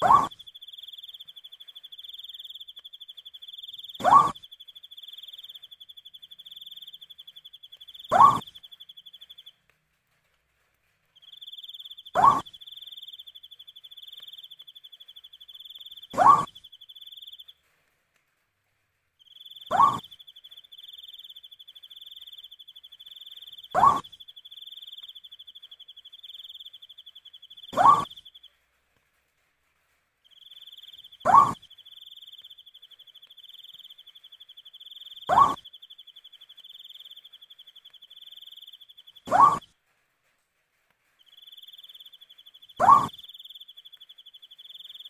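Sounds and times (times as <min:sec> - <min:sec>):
crickets trilling: 0:00.0 - 0:09.5, 0:11.2 - 0:17.5, 0:19.2 - 0:28.5, 0:30.3 - 0:39.6, 0:41.2 - 0:45.0
owl hooting: 0:00.0 - 0:09.6, 0:11.2 - 0:17.5, 0:19.2 - 0:28.5, 0:30.3 - 0:39.7, 0:41.2 - 0:45.0.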